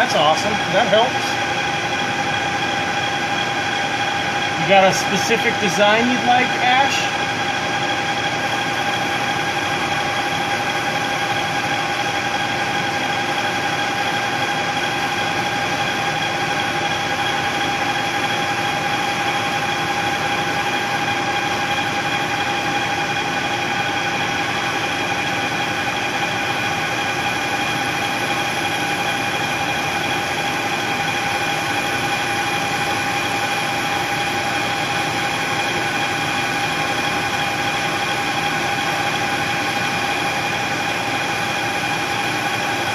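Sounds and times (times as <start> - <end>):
machine tool whine: 0.0 - 42.9.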